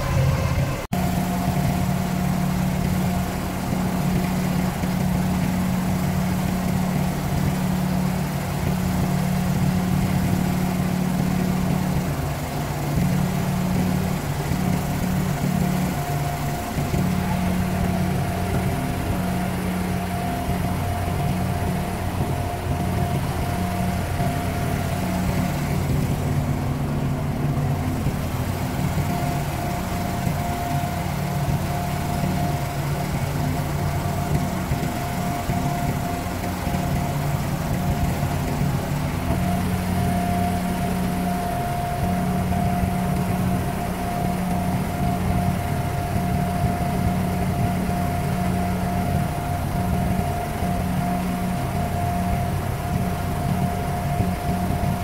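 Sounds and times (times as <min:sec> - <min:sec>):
boat diesel engine droning: 0:00.0 - 0:55.0
thin steady whine: 0:00.0 - 0:55.0
wind: 0:00.0 - 0:55.0.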